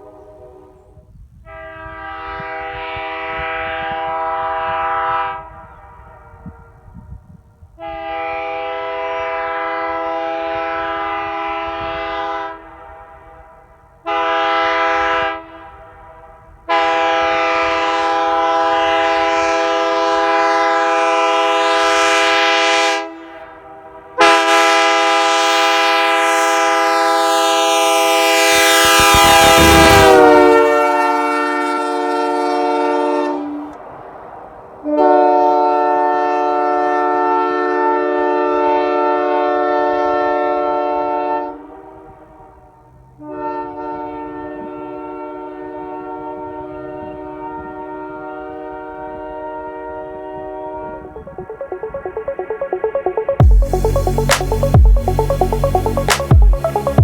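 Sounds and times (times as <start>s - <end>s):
locomotive air horn chord: 1.5s - 7.0s, 7.8s - 33.8s, 34.8s - 42.4s, 43.2s - 51.6s.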